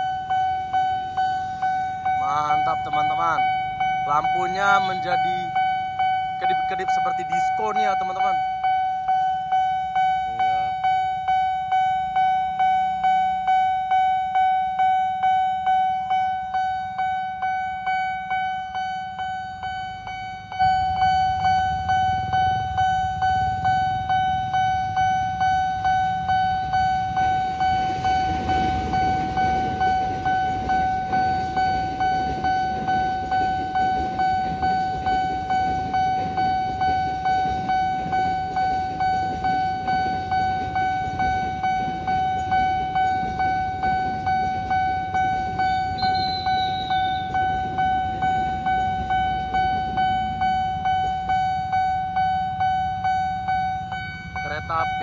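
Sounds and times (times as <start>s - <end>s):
electric train rumbling past: 0.0s - 55.0s
level crossing warning bell ringing: 0.0s - 55.0s.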